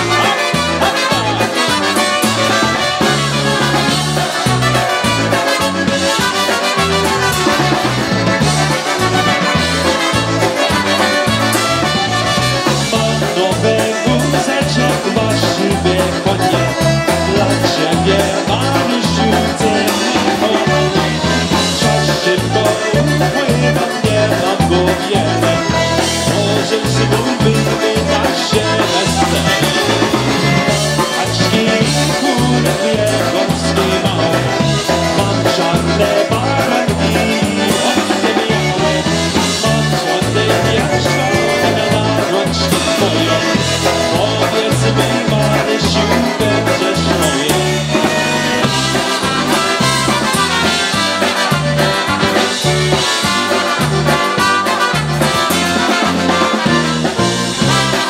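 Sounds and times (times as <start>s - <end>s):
accordions playing a tune: 0.0s - 58.0s
drum kit: 0.0s - 58.0s
electric bass oom-pah notes: 0.0s - 58.0s.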